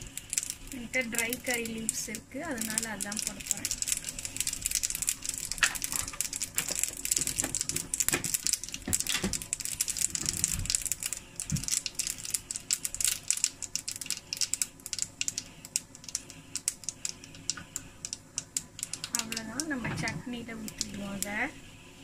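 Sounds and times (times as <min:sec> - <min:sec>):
mustard seeds popping: 0:00.0 - 0:21.4
oil crackling and sizzling in pan: 0:00.0 - 0:21.5.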